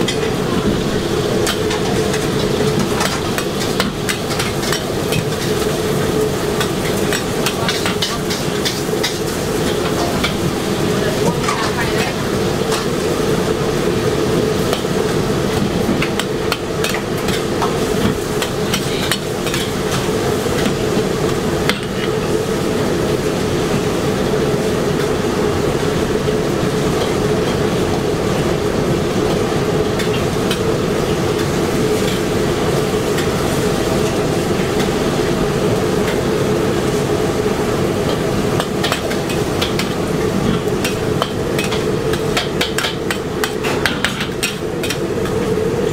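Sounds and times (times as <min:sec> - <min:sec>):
gas burner and frying: 0:00.0 - 0:45.9.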